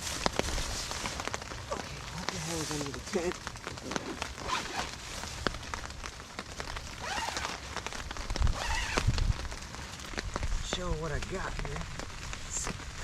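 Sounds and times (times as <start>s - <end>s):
rain ticking on tent fabric: 0.0s - 13.0s.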